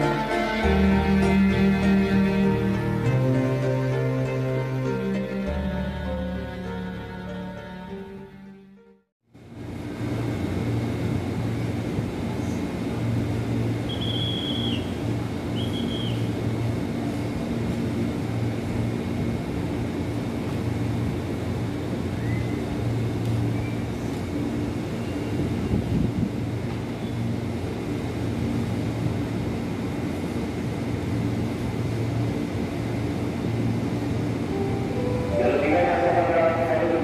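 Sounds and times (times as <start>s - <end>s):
electric train humming and rumbling: 0.0s - 37.0s.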